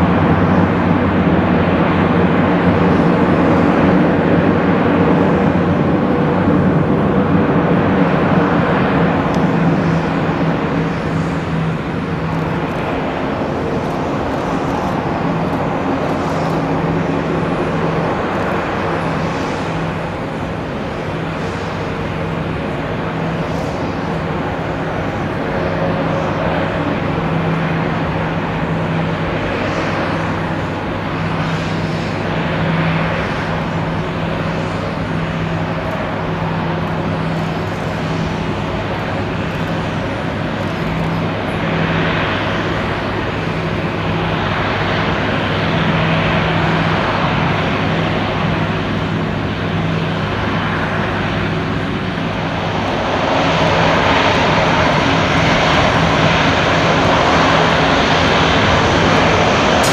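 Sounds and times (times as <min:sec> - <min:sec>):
aircraft propeller engines humming: 0:00.0 - 0:59.9.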